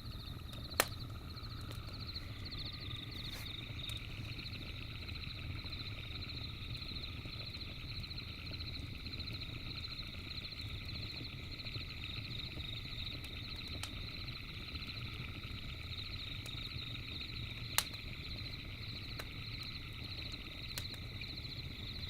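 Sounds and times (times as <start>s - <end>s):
campfire crackling pops: 0.0s - 22.0s.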